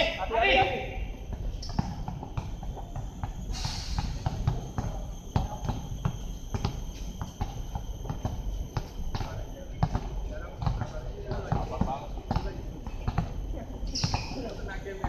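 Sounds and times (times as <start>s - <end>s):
basketball bouncing: 0.6s - 3.4s, 4.0s - 15.0s.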